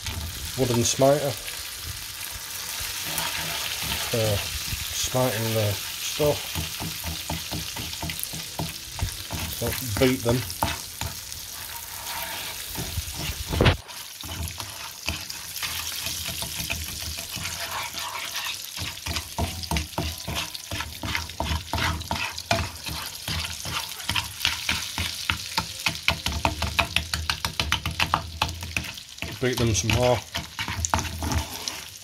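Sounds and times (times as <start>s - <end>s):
butter and sugar sizzling in pan: 0.0s - 32.0s
wooden spoon stirring and tapping: 3.0s - 31.9s.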